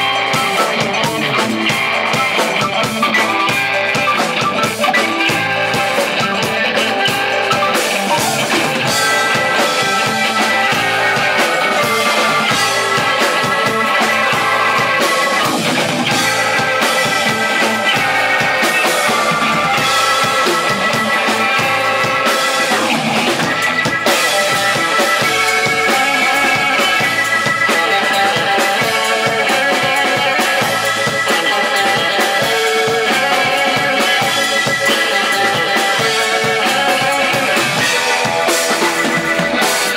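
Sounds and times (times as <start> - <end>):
drum kit: 0.0 - 39.9
electric guitars: 0.0 - 39.9
organ chords: 0.0 - 39.9.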